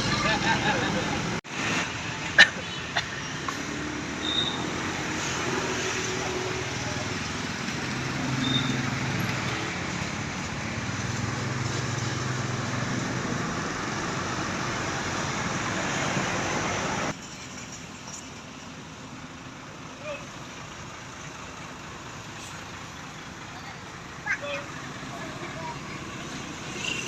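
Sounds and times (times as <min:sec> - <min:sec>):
bus engine droning: 0:00.0 - 0:27.0
road traffic rushing: 0:00.0 - 0:27.0.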